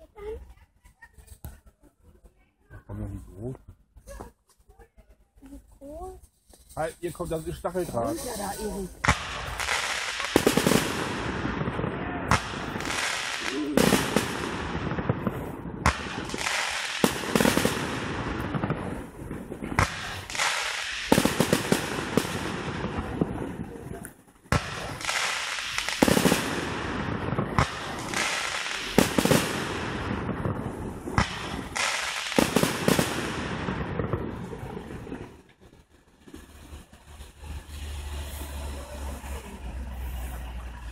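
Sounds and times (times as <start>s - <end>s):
fireworks bursting with crackling: 3.7s - 40.9s.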